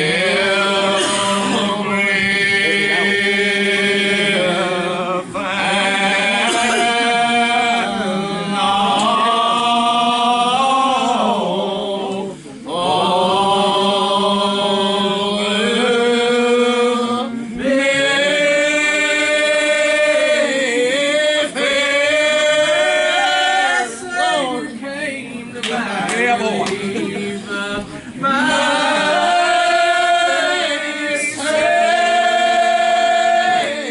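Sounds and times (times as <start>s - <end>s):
gospel singing: 0.0s - 33.9s.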